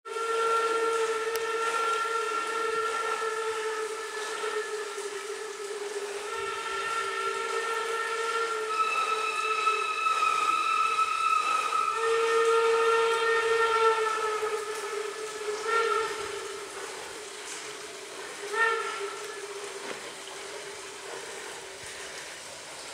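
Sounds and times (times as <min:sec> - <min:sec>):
steam locomotive whistle chord: 0:00.1 - 0:21.6.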